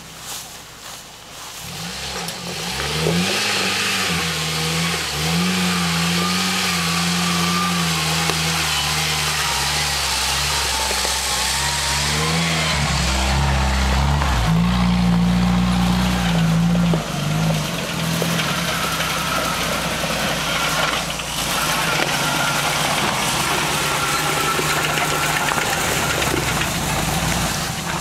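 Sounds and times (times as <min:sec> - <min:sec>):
engine revving under load: 0:01.6 - 0:28.0.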